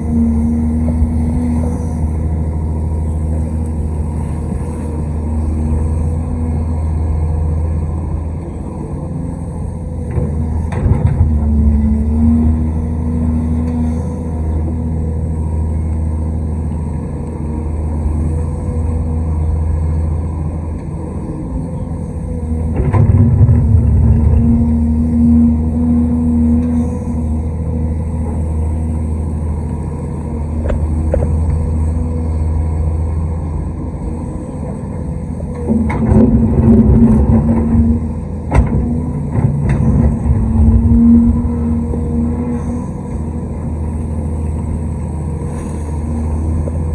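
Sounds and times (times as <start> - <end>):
excavator diesel engine: 0.0 - 46.9.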